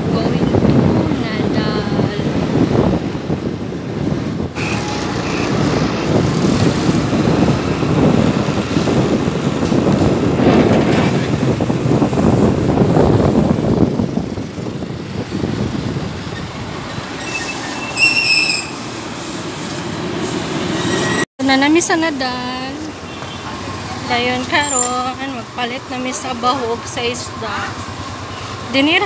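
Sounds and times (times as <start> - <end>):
wind and road rumble: 0.0 - 29.0.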